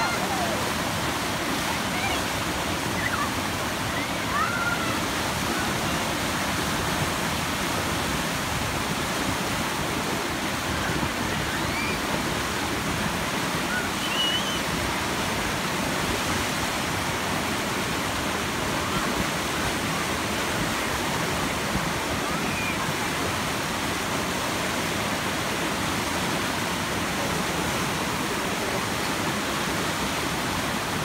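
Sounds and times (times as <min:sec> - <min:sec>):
rushing whitewater: 0:00.0 - 0:31.0.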